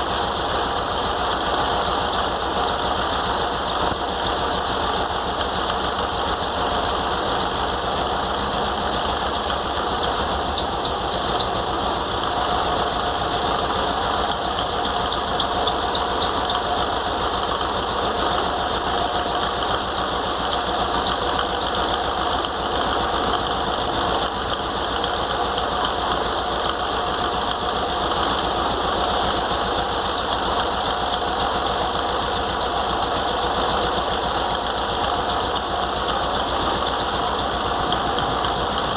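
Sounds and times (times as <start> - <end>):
air-cooled engine clattering: 0.0 - 38.9.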